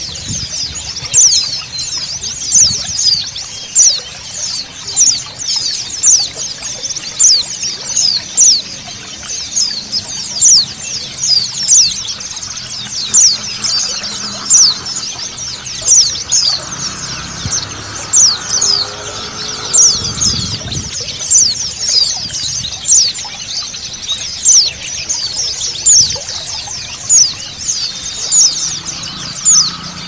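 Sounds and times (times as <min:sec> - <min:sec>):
birds chirping and twittering: 0:00.0 - 0:30.0
faint running water: 0:00.0 - 0:30.0
sharp bird chirps: 0:00.0 - 0:30.0.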